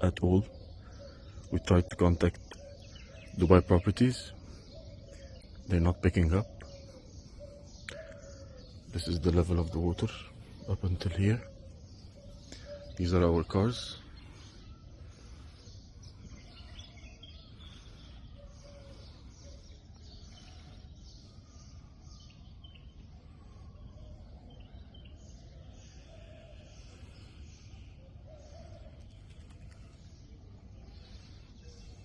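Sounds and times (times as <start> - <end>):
birds chirping faintly: 0.0 - 32.0
low outdoor background noise: 0.0 - 32.0.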